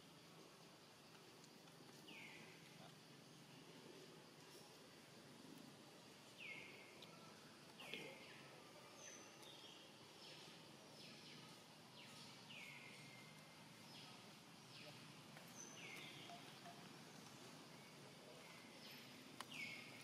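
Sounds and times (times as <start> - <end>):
low background hiss: 0.0 - 20.0.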